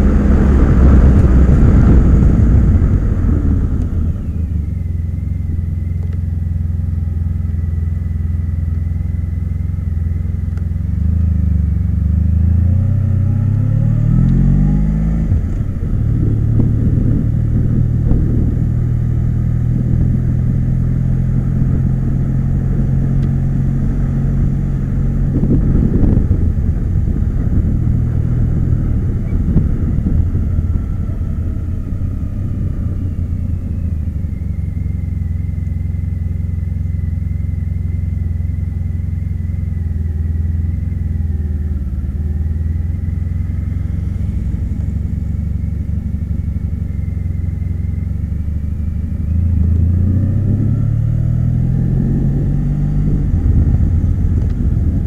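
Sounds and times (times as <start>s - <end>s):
car engine running: 0.0s - 55.0s
road rumble: 0.0s - 55.0s.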